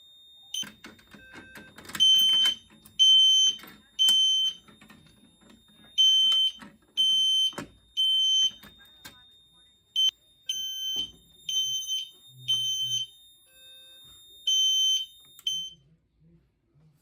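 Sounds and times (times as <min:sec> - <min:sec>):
fire alarm horn blasts: 0:00.0 - 0:15.8.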